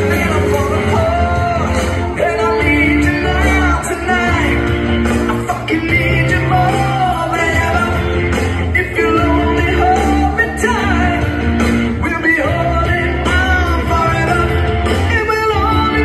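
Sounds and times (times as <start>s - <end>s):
person singing: 0.0s - 16.0s
rock ballad over sound system: 0.0s - 16.0s.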